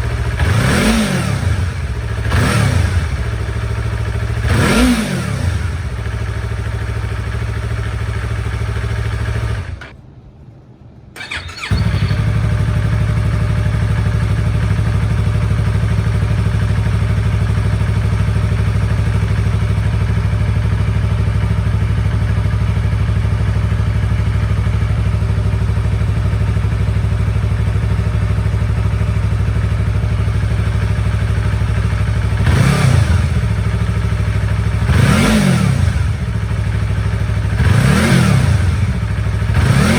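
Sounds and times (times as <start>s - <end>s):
motorcycle engine idling and revving: 0.0s - 10.0s, 11.2s - 39.9s.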